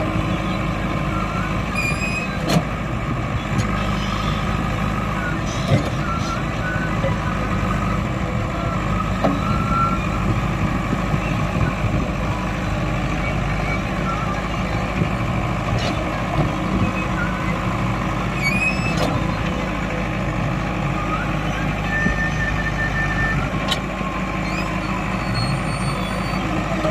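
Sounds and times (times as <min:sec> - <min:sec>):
diesel machinery running: 0:00.0 - 0:26.9.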